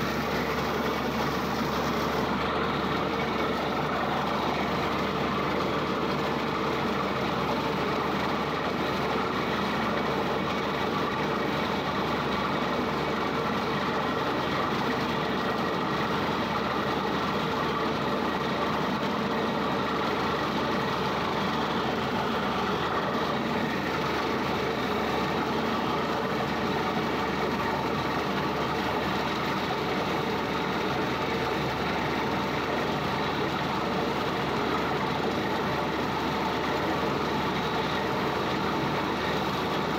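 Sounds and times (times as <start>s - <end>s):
drilling rig engine and compressor: 0.0s - 39.9s.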